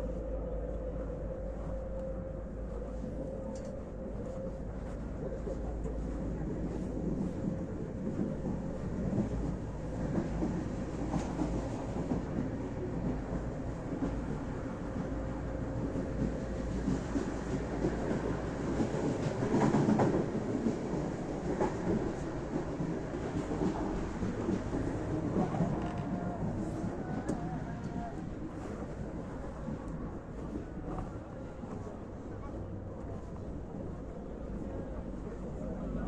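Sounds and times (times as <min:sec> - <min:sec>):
train rumbling on rails: 0:00.0 - 0:36.0.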